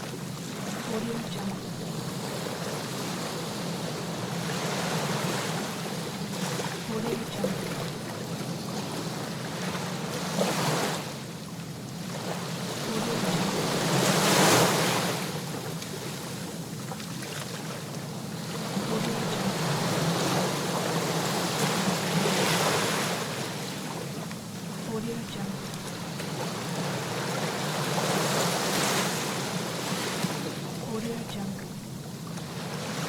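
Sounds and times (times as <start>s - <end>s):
sea waves washing onto shore: 0.0s - 33.0s.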